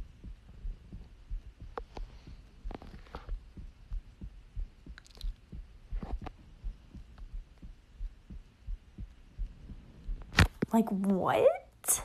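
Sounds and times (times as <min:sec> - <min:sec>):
heartbeat thuds: 0:00.0 - 0:10.8.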